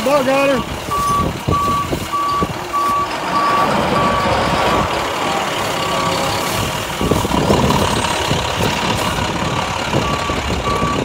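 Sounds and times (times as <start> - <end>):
truck engine running: 0.0 - 11.0
truck back-up alarm beeping: 0.2 - 11.0.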